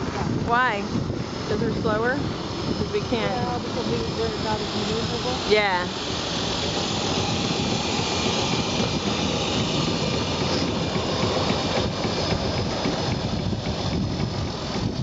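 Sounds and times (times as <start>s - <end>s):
floatplane engine and propeller roar: 0.0s - 15.0s.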